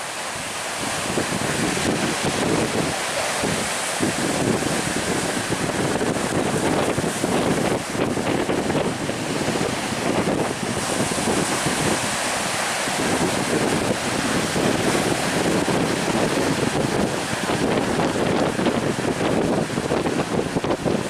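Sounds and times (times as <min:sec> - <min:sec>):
sea waves: 0:00.0 - 0:21.0
wind buffeting microphone: 0:00.0 - 0:21.0.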